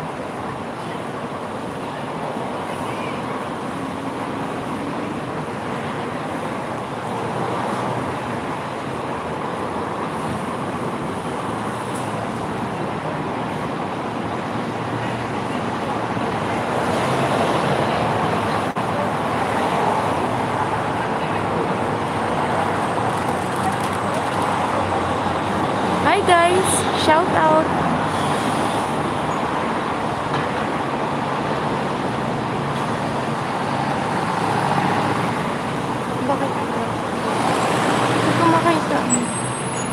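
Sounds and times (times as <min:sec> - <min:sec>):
traffic rush: 0:00.0 - 0:39.9.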